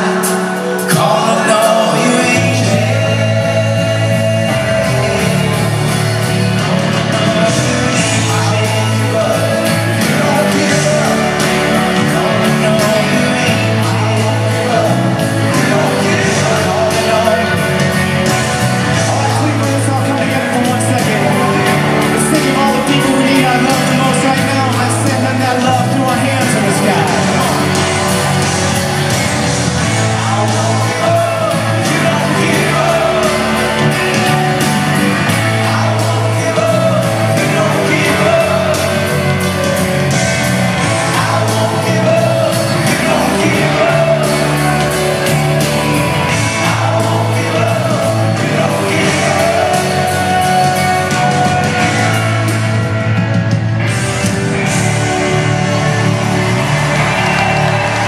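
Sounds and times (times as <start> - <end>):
person singing: 0.0 - 53.6
live rock band playing: 0.0 - 58.0.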